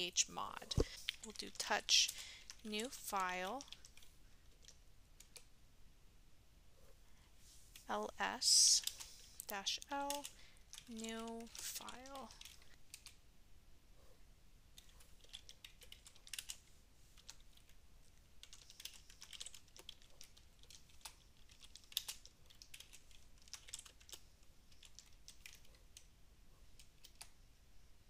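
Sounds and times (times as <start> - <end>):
faint keyboard typing: 0.0 - 5.5, 7.7 - 13.2, 14.8 - 27.4.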